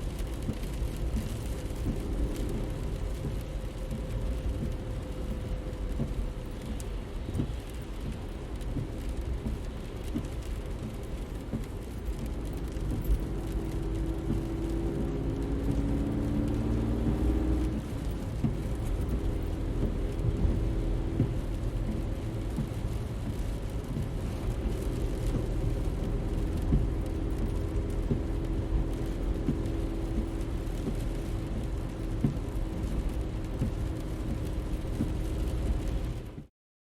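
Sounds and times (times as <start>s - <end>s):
engine and road rumble: 0.0s - 36.5s.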